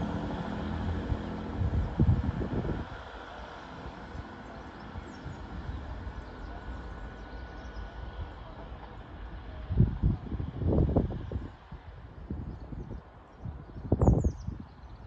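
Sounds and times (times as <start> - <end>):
distant train rumble: 0.0 - 15.0
wind buffeting microphone: 0.0 - 15.0.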